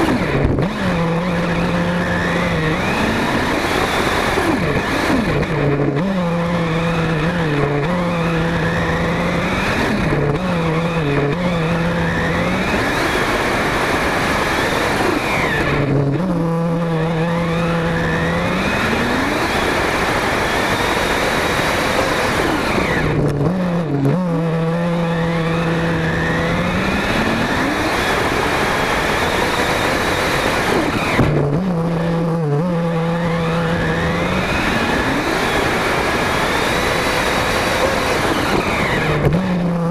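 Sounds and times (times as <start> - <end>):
toy car drivetrain whine: 0.0 - 39.9
wheels rumbling over ground: 0.0 - 39.9.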